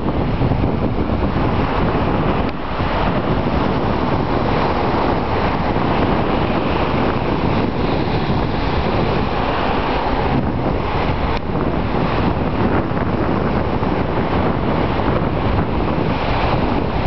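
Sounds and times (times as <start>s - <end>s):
surf washing on beach: 0.0s - 17.0s
wind buffeting microphone: 0.0s - 17.0s.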